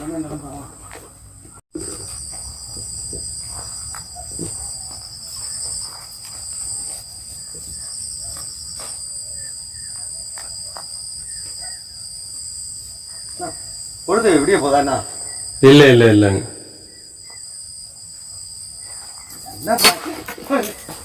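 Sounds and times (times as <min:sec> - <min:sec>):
crickets trilling: 0:00.0 - 0:21.0
fast pulsing insect trill: 0:01.8 - 0:21.0.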